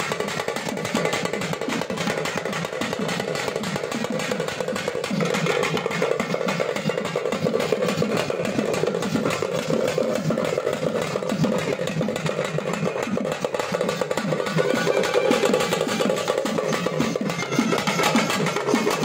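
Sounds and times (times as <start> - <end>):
frame drums beaten with sticks: 0.0 - 19.0.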